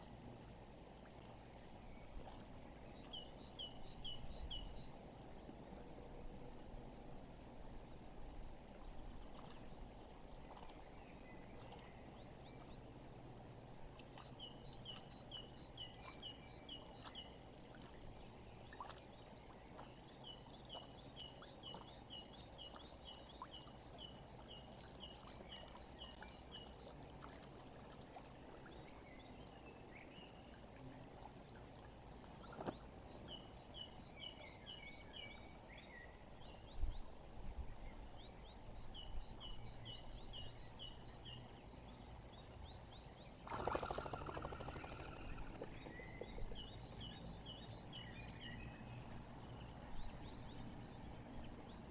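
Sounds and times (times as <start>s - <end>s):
faint steady hiss: 0.0s - 51.9s.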